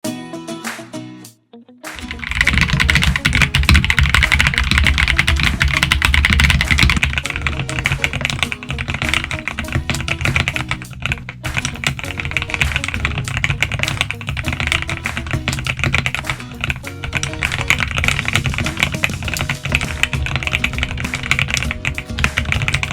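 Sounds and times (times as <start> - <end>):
background music with low notes: 0.0 - 22.9
mechanical keyboard typing: 2.0 - 22.9.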